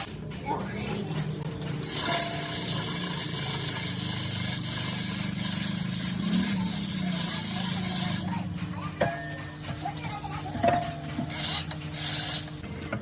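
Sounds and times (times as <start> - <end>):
workshop machine humming and hissing: 0.0 - 13.0.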